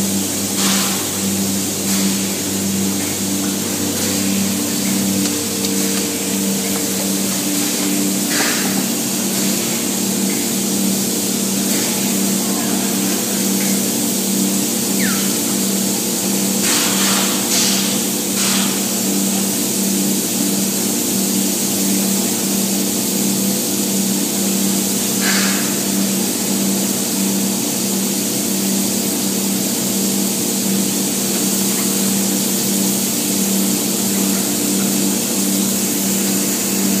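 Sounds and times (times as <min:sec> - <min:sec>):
spray foam hissing: 0:00.0 - 0:21.2, 0:28.4 - 0:37.0
machine hum: 0:00.0 - 0:22.9, 0:25.7 - 0:37.0.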